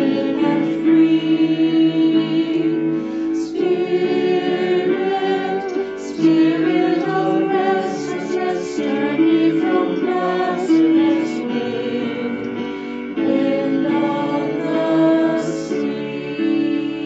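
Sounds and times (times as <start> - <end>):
musical accompaniment: 0.0 - 17.0
slow hymn singing: 0.0 - 17.0.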